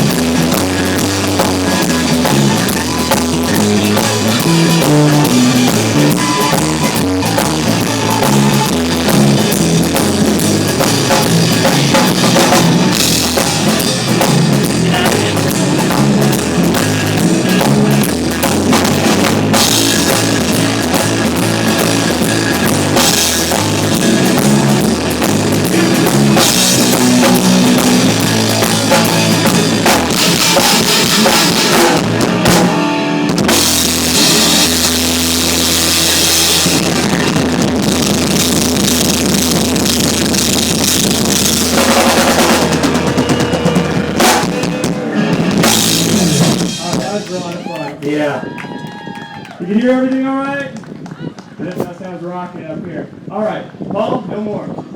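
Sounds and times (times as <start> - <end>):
drum kit: 0.0 - 47.8
live rock band playing: 0.0 - 48.1.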